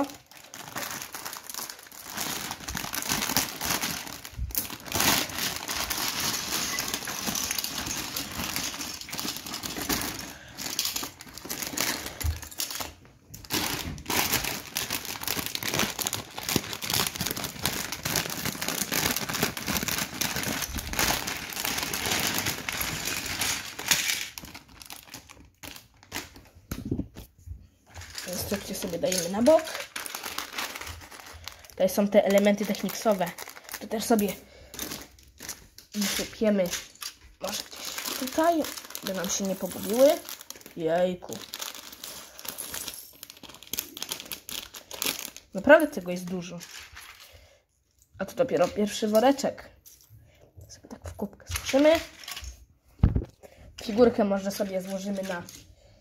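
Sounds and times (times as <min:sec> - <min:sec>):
plastic bags crinkling: 0:00.0 - 0:49.5, 0:51.2 - 0:55.9.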